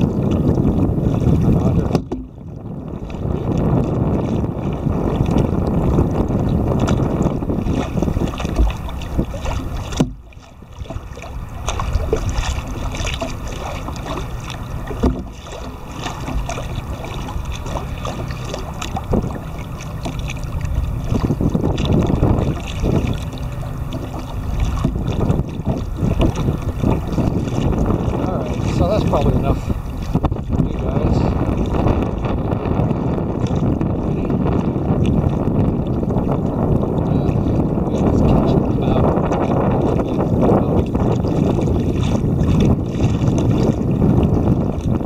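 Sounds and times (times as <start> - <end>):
small waves slapping hull: 0.0 - 45.0
wind buffeting microphone: 0.0 - 45.0.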